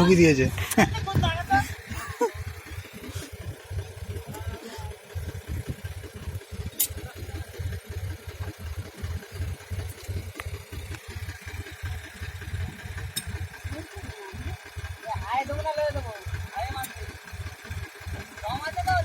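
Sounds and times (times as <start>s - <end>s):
diesel tractor engine chugging: 0.0s - 19.0s.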